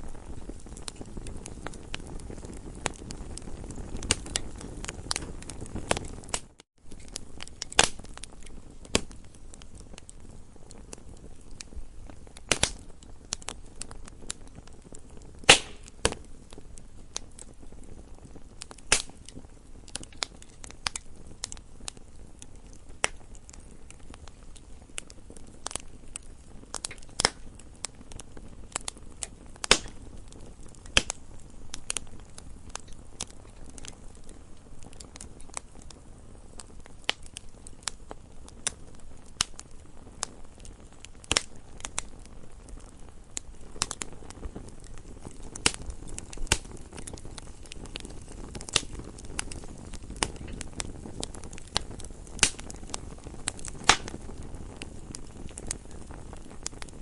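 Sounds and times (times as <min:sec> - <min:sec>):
burning wood crackling and popping: 0:00.0 - 0:57.0.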